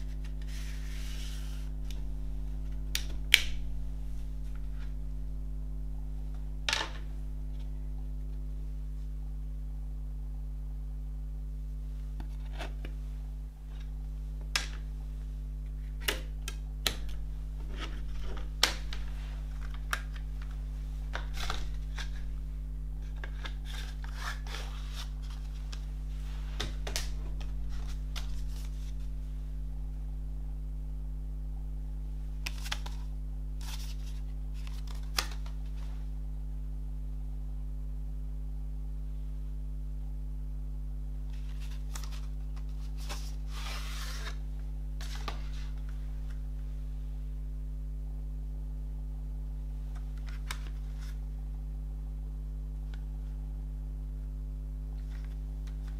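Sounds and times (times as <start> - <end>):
low electrical hum: 0.0 - 55.9.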